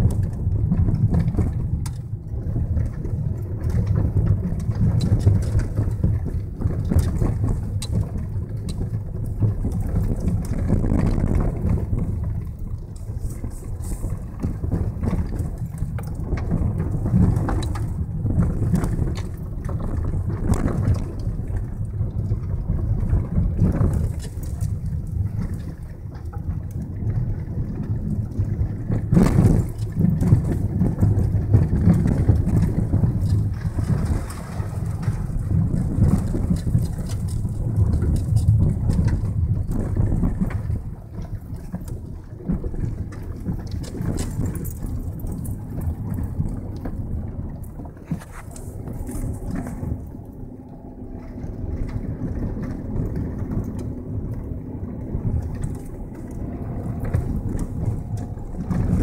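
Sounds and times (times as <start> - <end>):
engine and tyre rumble: 0.0 - 59.0
gravel crunching and clicks: 0.0 - 59.0.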